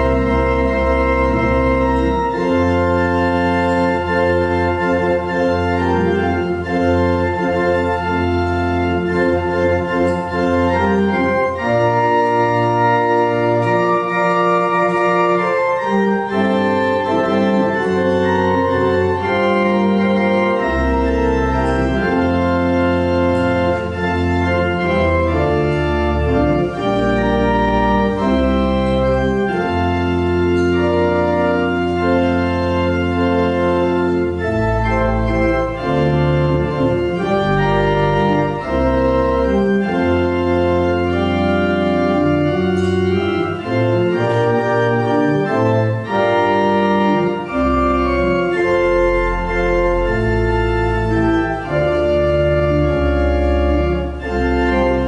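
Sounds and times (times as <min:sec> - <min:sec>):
church organ chords: 0:00.0 - 0:55.0.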